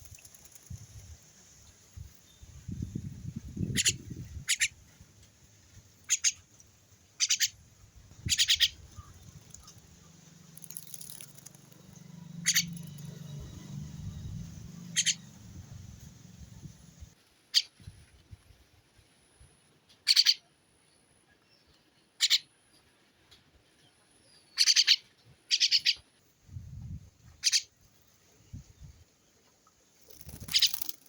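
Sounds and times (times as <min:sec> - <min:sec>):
small bird chirping: 0:00.0 - 0:17.9, 0:20.0 - 0:20.5, 0:21.6 - 0:22.8, 0:24.3 - 0:29.0, 0:29.7 - 0:31.0.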